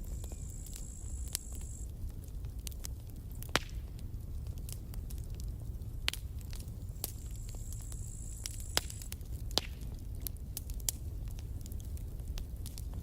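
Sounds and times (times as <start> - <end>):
campfire wood crackling: 0.0 - 13.0
low rumble of flames: 0.0 - 13.0.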